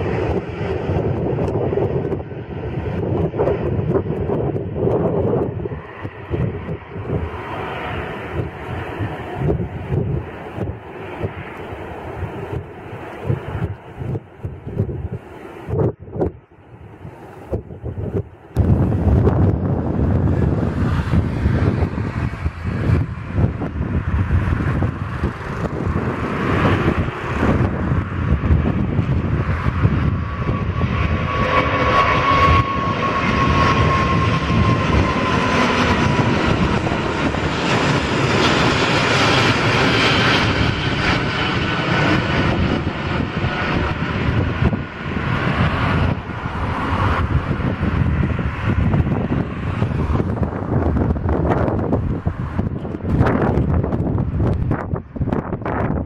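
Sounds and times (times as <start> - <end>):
jet engine roar: 0.0 - 56.0
jet engine whine: 0.0 - 56.0.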